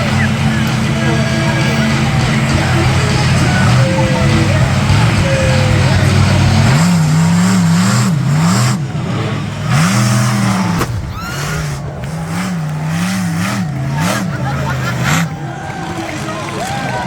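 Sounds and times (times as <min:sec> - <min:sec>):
sharp crack: 0:00.0 - 0:16.3
vehicle engine revving: 0:00.0 - 0:17.0.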